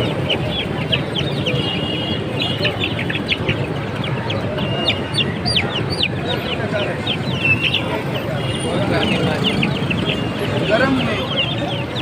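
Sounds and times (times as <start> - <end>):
background street noise: 0.0 - 12.0
chicks peeping: 0.0 - 12.0.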